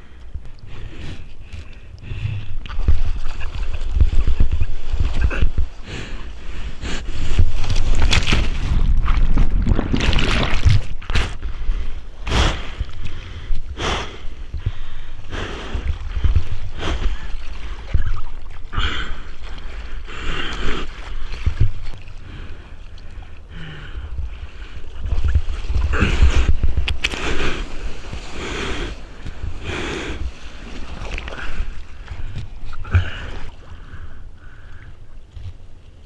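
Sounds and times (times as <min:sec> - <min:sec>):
low rumble of water: 0:00.0 - 0:36.0
ocean water splashing: 0:00.0 - 0:36.0.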